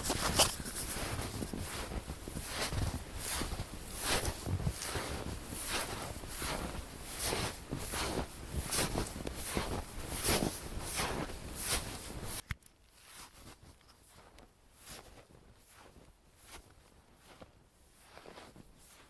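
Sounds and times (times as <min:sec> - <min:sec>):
footsteps in snow: 0:00.0 - 0:12.4, 0:13.0 - 0:19.0.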